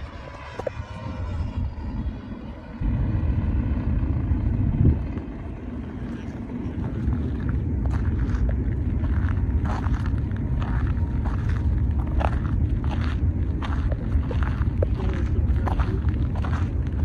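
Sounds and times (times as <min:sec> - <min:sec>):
faint paramotor engine drone: 0:00.0 - 0:17.0
wind buffeting microphone: 0:00.0 - 0:17.0.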